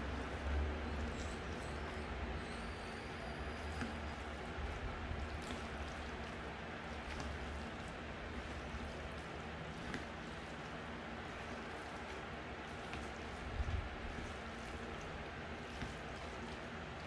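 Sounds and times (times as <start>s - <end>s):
chopsticks stirring noodles in sauce: 0.0s - 17.0s
low room hum: 0.0s - 17.0s.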